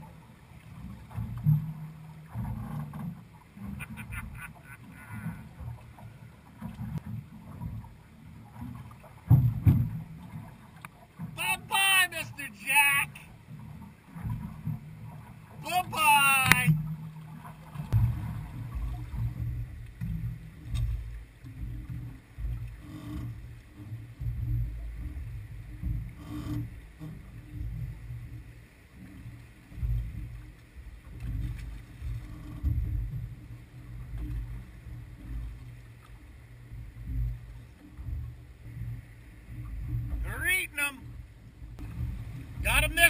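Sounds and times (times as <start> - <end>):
wind and water rumble: 0.0 - 43.0.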